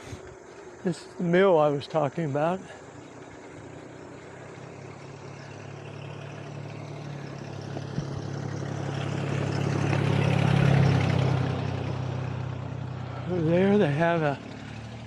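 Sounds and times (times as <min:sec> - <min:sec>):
vehicle engine approaching: 0:00.0 - 0:15.0.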